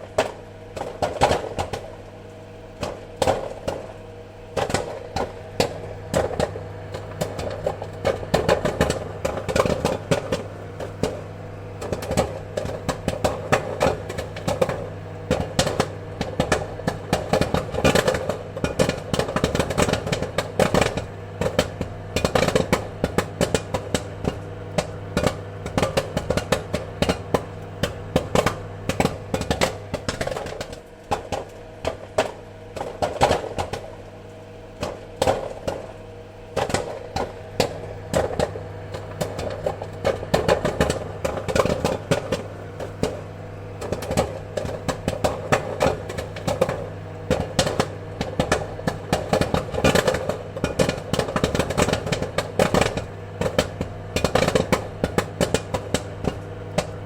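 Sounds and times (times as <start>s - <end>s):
popcorn popping: 0.0s - 57.0s.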